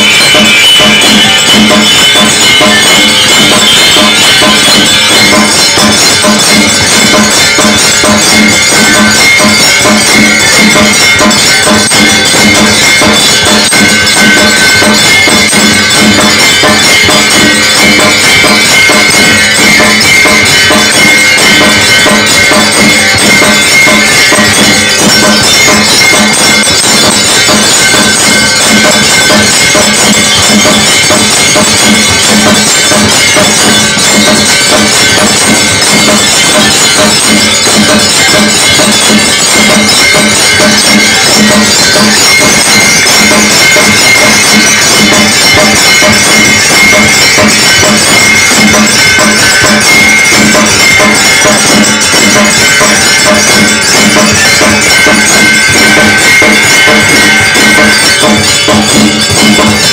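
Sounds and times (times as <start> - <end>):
brass bells clanging: 0.0 - 59.9.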